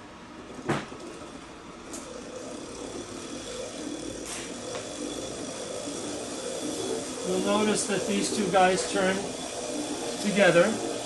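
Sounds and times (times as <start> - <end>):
electric motor speeding up: 0.4 - 11.0.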